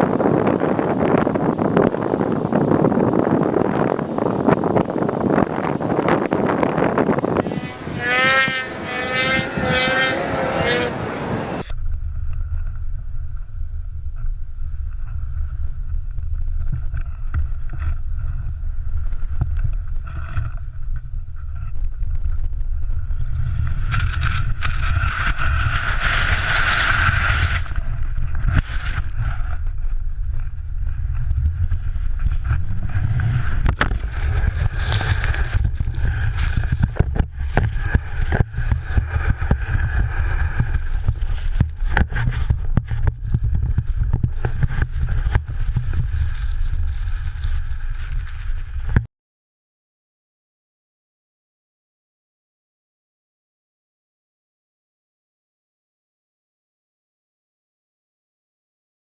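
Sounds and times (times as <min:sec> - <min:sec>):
wind buffeting microphone: 0:00.0 - 0:49.1.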